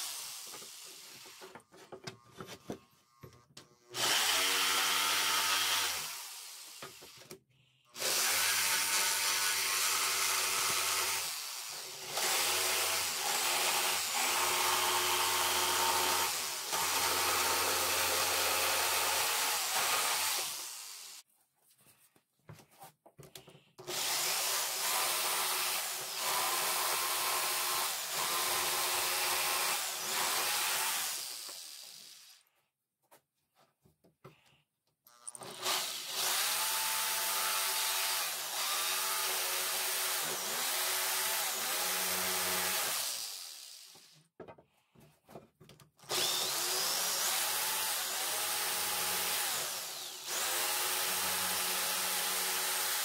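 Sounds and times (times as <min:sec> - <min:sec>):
electric jigsaw cutting wood: 0:00.0 - 0:01.7, 0:02.4 - 0:07.4, 0:08.0 - 0:21.2, 0:23.8 - 0:32.4, 0:35.1 - 0:44.2, 0:46.0 - 0:53.0.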